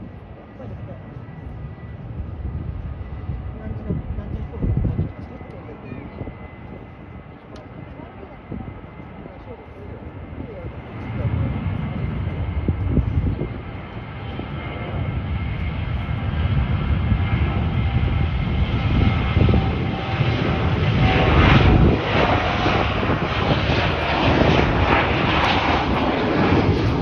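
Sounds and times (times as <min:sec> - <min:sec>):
jet airliner engine rumble: 0:00.0 - 0:27.0.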